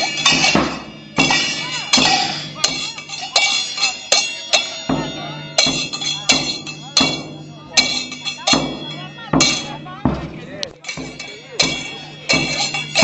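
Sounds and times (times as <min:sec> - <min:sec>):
bass drum mallet strikes: 0:00.0 - 0:13.0
cymbal hits ringing: 0:00.0 - 0:13.0.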